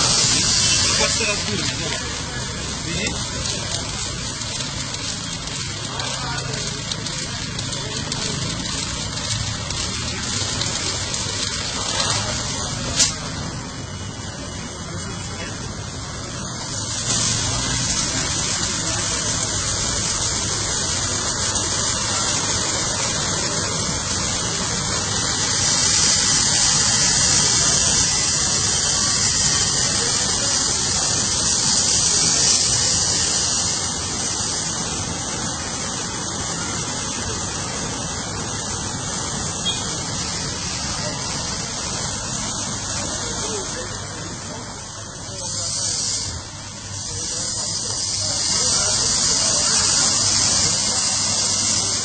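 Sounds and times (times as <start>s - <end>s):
car wash brushes and spray: 0.0s - 52.0s.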